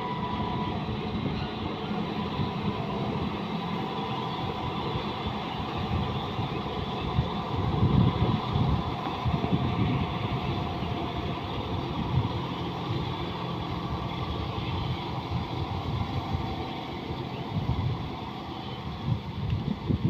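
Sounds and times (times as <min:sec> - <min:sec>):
tractor diesel engine rumbling: 0:00.0 - 0:20.0.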